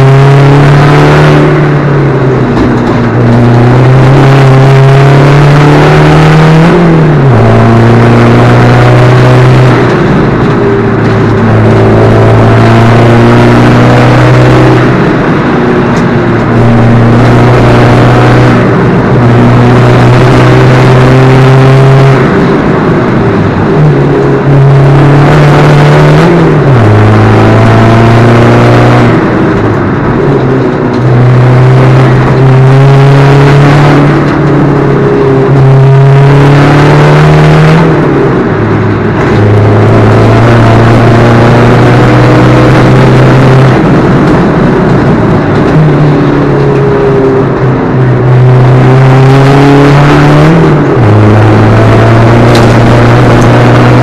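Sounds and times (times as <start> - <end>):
turbodiesel engine running hard: 0.0 - 54.0.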